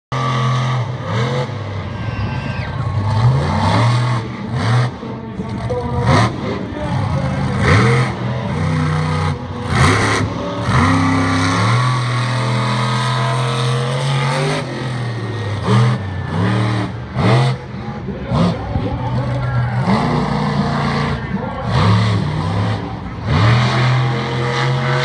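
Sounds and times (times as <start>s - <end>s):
truck engine revving: 0.1s - 25.0s.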